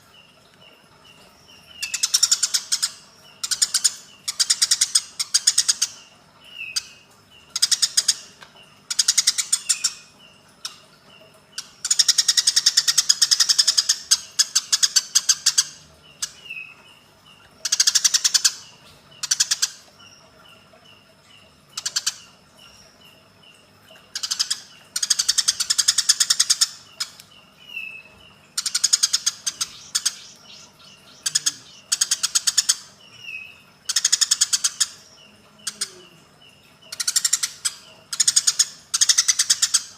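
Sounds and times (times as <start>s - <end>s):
small bird chirps: 0.0s - 39.9s
sparrows harsh chattering: 0.0s - 39.9s.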